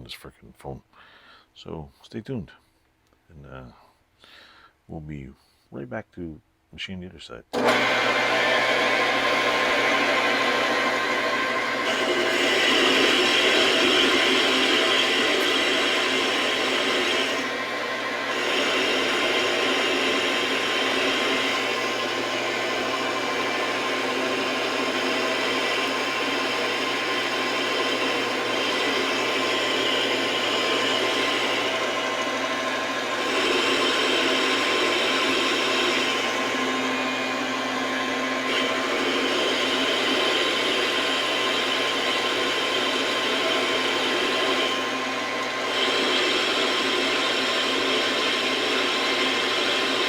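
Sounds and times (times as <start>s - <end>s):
metal lathe whirring: 7.6s - 50.0s.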